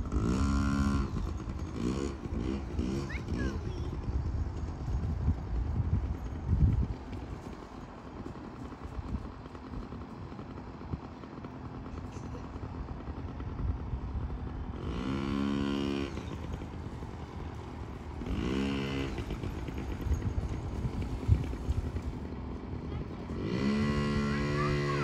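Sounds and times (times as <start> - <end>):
small two-stroke engine revving: 0.0 - 25.0.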